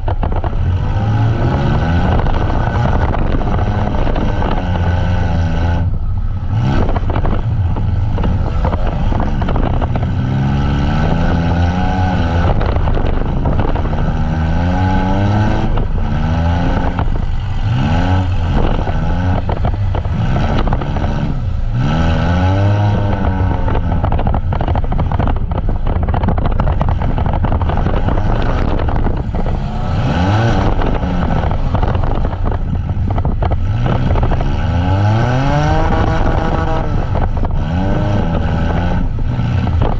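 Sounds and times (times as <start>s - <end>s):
engines revving hard: 0.0s - 39.9s
low rumble: 0.0s - 39.9s.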